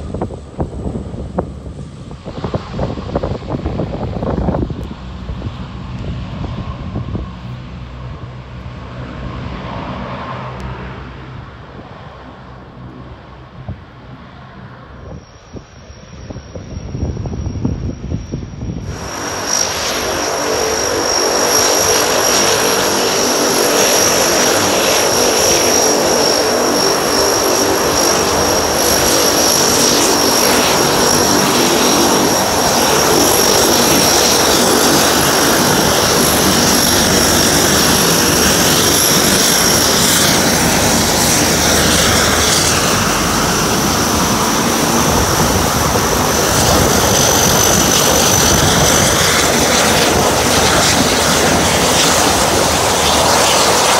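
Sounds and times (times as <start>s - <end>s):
propellers thrumming: 0.0s - 53.9s
turboprop engines whining: 0.0s - 53.9s.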